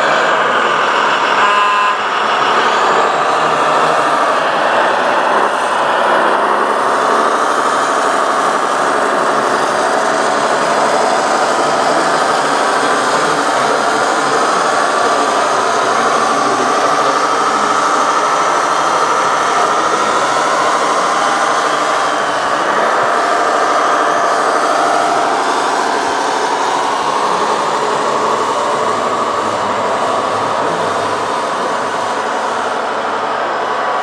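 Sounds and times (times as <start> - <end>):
small motors whining: 0.0 - 34.0.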